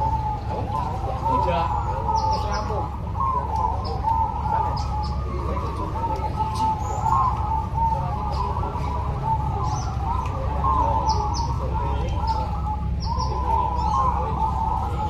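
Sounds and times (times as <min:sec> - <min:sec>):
doves cooing: 0:00.0 - 0:15.0
small birds chirping: 0:00.0 - 0:15.0.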